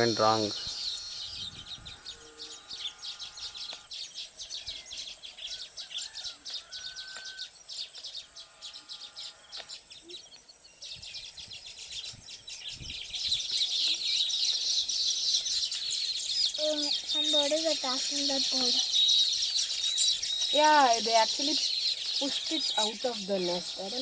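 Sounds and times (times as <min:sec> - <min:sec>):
weaver birds chattering: 0:00.0 - 0:24.0.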